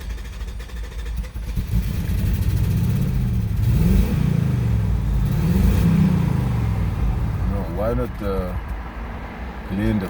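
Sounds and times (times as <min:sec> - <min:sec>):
car engine misfiring: 0:00.0 - 0:08.7.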